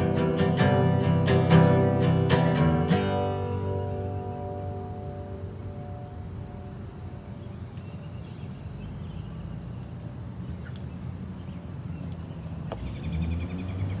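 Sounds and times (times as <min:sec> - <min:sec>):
birds chirping: 0:00.0 - 0:14.0
low street rumble: 0:00.0 - 0:14.0.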